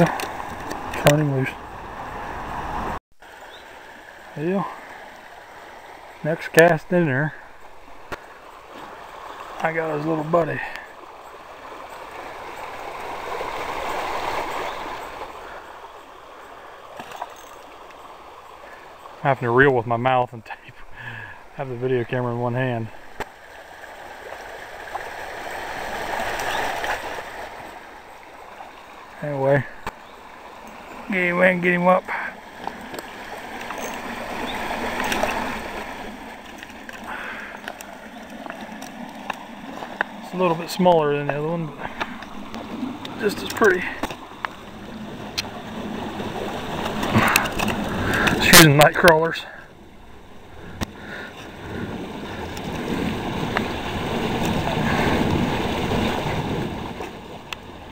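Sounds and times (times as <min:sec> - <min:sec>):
creek water over stones: 0:00.0 - 0:57.9
stream rippling over rocks: 0:00.0 - 0:57.9.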